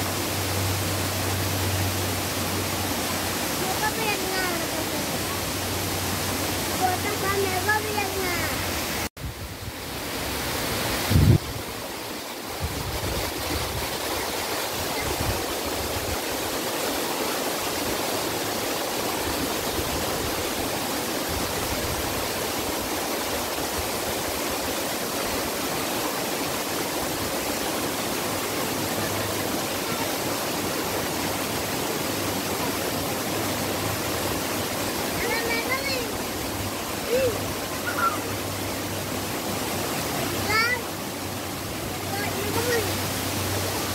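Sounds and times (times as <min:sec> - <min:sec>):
stream cascading over rocks: 0:00.0 - 0:43.9.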